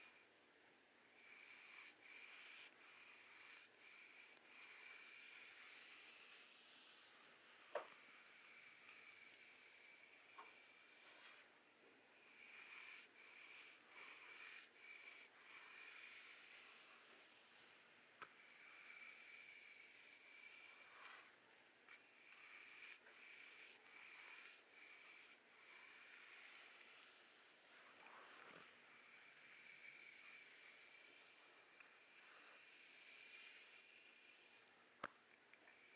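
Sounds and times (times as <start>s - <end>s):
faint steady hiss: 0.0s - 35.9s.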